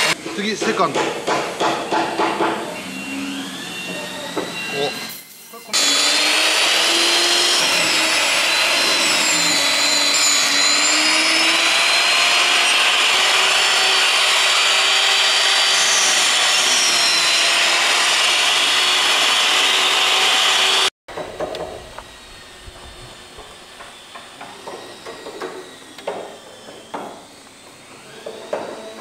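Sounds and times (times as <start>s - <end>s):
mortiser motor cutting wood: 0.0s - 0.9s, 2.4s - 5.0s, 5.7s - 29.0s.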